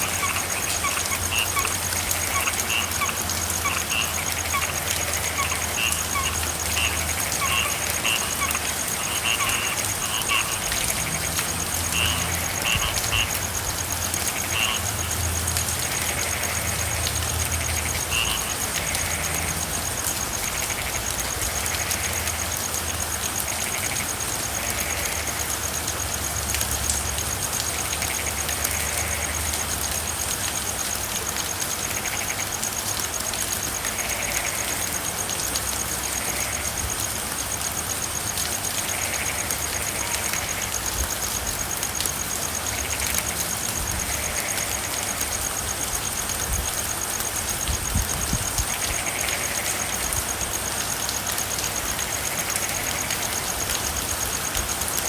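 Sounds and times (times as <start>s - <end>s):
frogs calling in short notes: 0.0s - 55.0s
steady rain falling: 0.0s - 55.0s.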